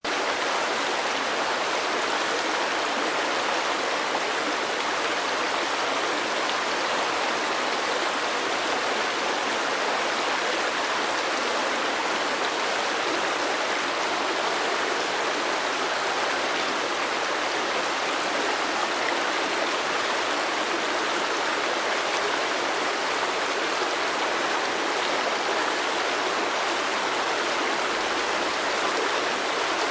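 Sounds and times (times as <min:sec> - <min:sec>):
creek rushing over rocks: 0:00.0 - 0:29.9.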